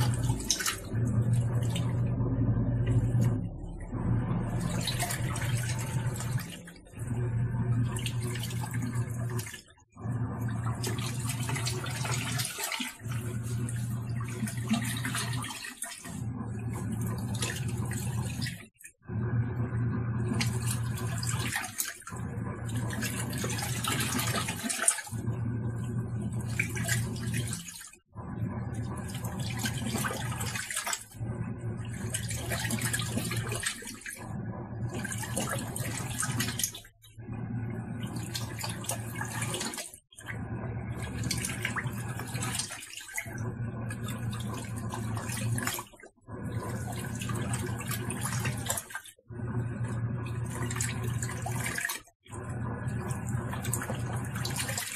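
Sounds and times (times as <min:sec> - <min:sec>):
washing machine motor humming: 0:00.0 - 0:54.9
water churning in tub: 0:00.0 - 0:54.9.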